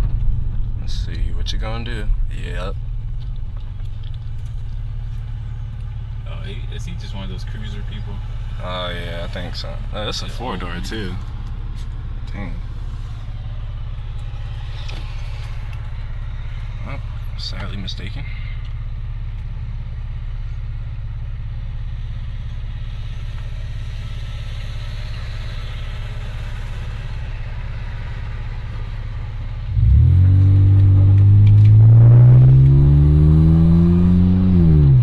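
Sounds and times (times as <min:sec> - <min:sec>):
car engine and exhaust: 0:00.0 - 0:35.0.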